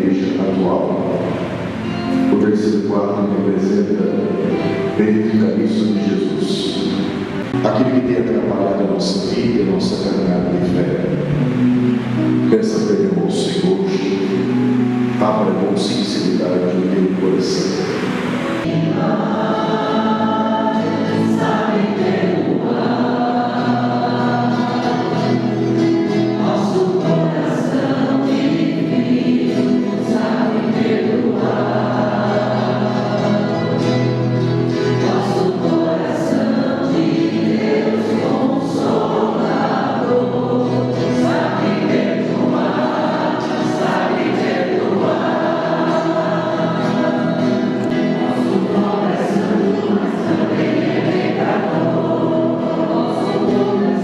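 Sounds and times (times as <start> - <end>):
church choir singing a hymn: 0.0 - 54.0.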